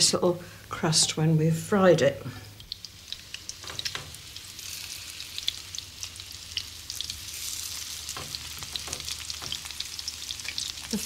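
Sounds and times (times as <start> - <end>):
meat sizzling in fat: 1.7 - 11.0.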